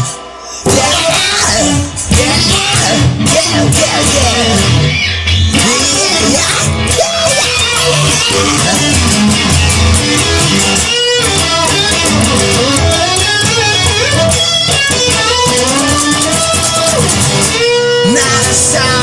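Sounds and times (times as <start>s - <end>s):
band music with guitar and bass: 0.0s - 19.0s
person singing: 0.0s - 19.0s.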